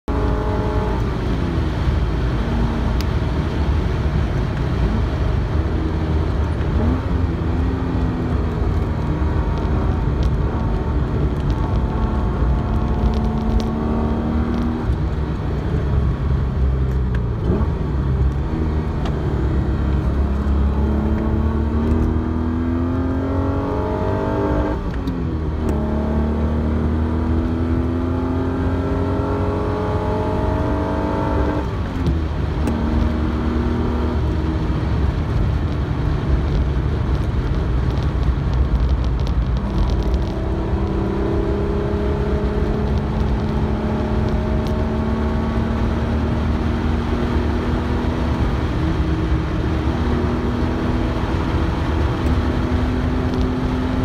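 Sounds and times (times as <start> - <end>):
car engine revving through gears: 0.1 - 54.0.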